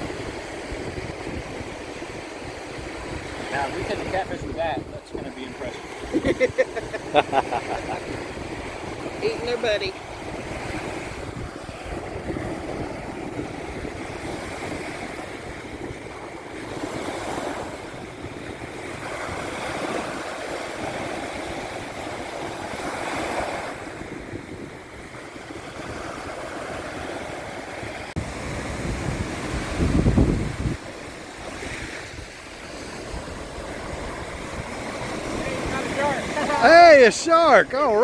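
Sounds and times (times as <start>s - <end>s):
surf washing onto beach: 0.0s - 38.0s
wind rumbling on microphone: 0.0s - 38.0s.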